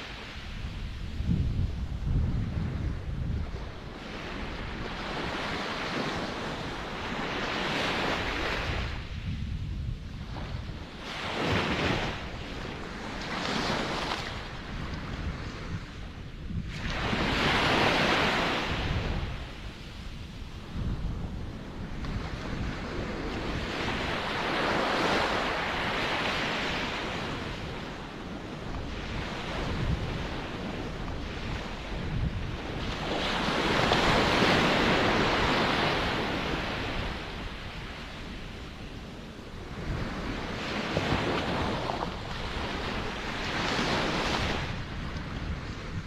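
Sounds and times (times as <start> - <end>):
ocean waves breaking: 0.0 - 9.2, 10.2 - 46.0.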